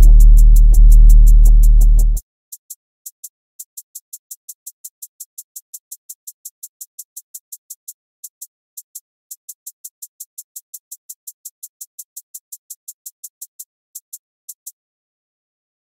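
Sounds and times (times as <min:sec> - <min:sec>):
drum machine hi-hat ticking: 0:00.0 - 0:14.8.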